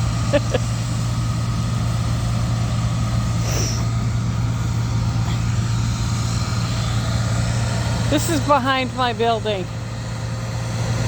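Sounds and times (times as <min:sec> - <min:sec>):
combine harvester engine hum: 0:00.0 - 0:11.0.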